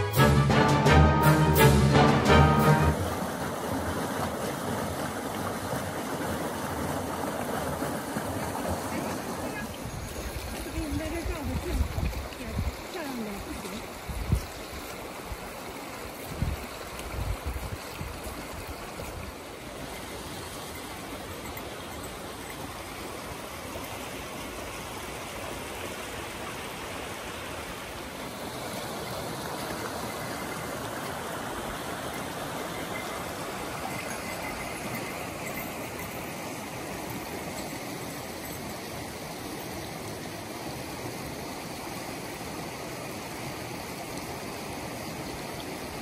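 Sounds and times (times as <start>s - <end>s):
creek rushing over rocks: 0.0s - 46.0s.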